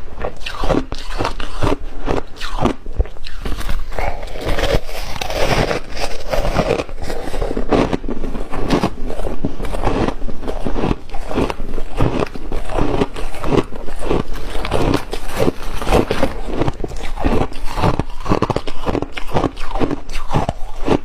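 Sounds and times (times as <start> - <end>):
ice being chewed: 0.0 - 21.0.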